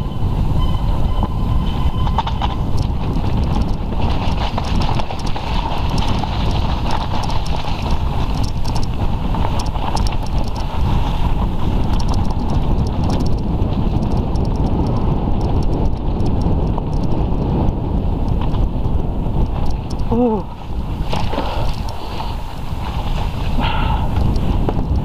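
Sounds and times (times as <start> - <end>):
bicycle clicking and rattling: 0.0 - 25.0
wind buffeting microphone: 0.0 - 25.0.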